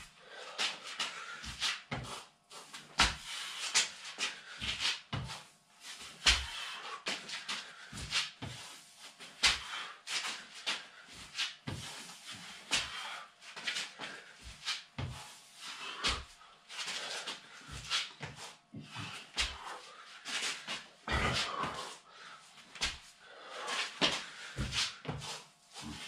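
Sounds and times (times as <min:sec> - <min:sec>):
hands and trainers scuffing: 0:00.5 - 0:22.0, 0:22.6 - 0:26.0.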